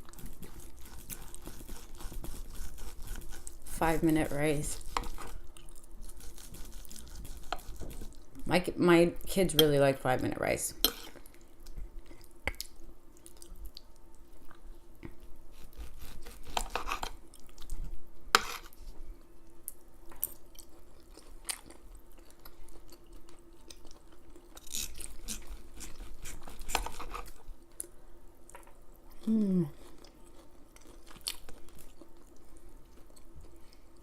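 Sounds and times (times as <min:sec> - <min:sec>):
person chewing and mouth sounds: 0:00.0 - 0:03.6, 0:04.8 - 0:08.4, 0:11.1 - 0:18.0, 0:19.2 - 0:34.0
faint steady hum: 0:00.0 - 0:34.0.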